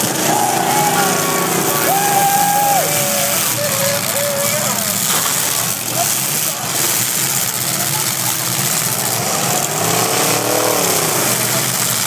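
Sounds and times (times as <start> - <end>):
car engines running loudly: 0.0 - 12.0
engine revving: 0.0 - 12.0.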